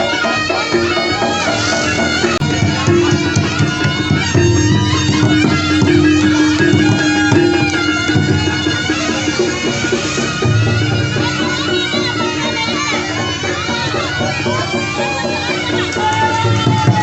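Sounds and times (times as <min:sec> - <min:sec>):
drum strokes: 0:00.0 - 0:17.0
reedy shawm melody: 0:00.0 - 0:17.0.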